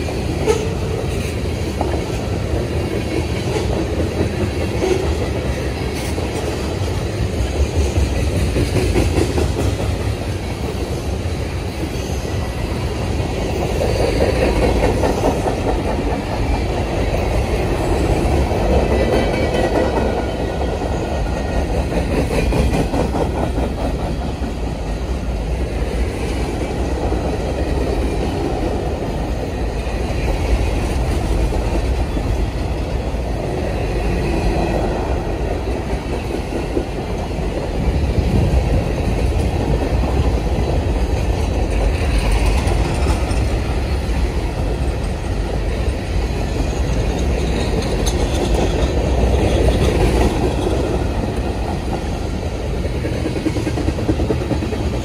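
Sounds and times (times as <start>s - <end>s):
train wheels clickety-clack on rails: 0.0s - 55.0s.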